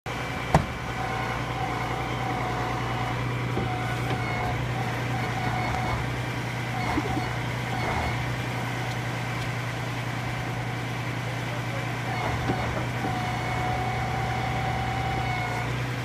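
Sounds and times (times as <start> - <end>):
vehicle engine idling: 0.1 - 16.0.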